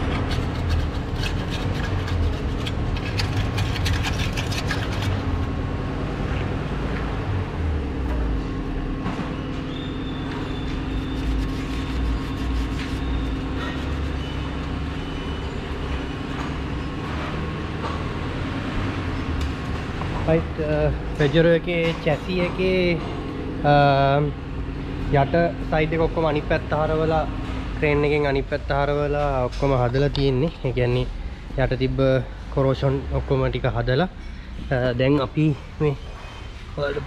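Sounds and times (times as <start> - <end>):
low mechanical rumble: 0.0 - 37.0.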